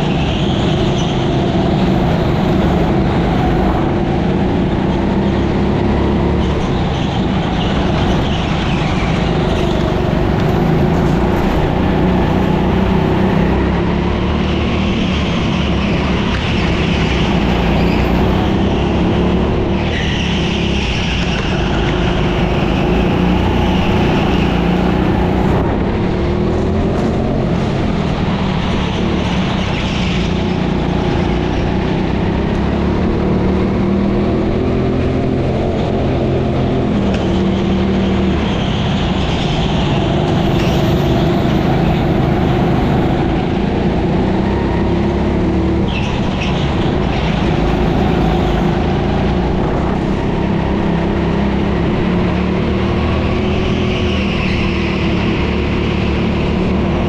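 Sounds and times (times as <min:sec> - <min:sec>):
go-kart engine drone: 0:00.0 - 0:57.0.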